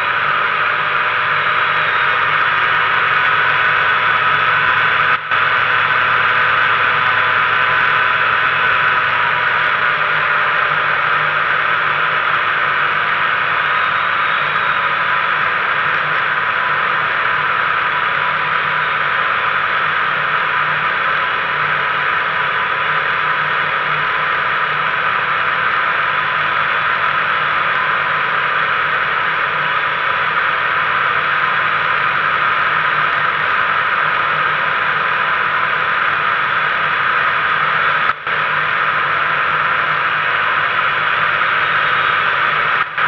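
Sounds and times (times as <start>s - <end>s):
two-stroke engine droning: 0.0s - 43.0s.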